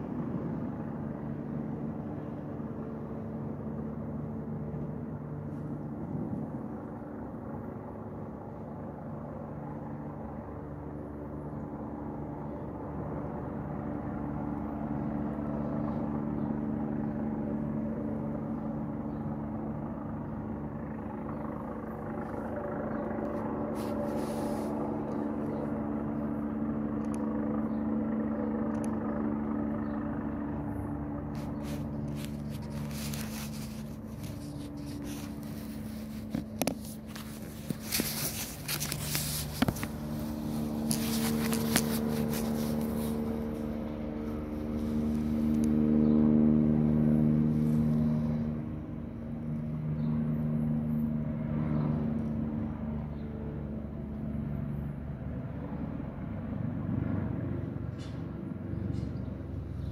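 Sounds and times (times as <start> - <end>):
engine hum: 0.0 - 59.9.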